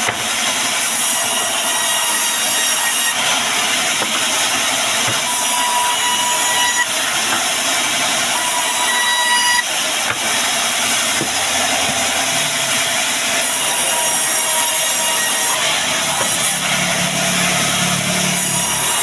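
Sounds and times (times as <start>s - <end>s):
band saw cutting log: 0.0s - 19.0s.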